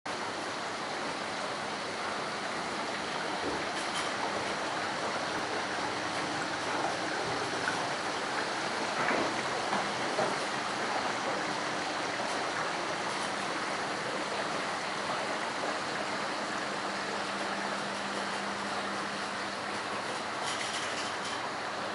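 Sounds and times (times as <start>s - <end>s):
water falling and splashing: 0.8s - 21.9s.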